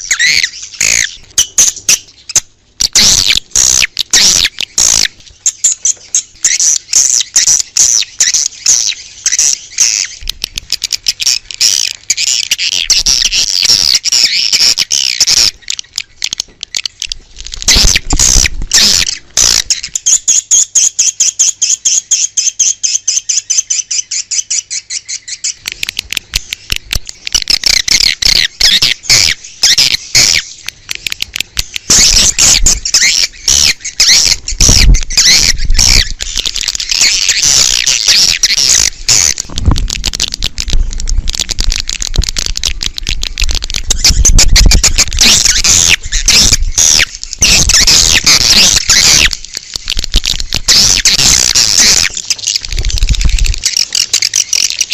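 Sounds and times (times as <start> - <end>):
swiftlets chirping and twittering: 0.0 - 54.9.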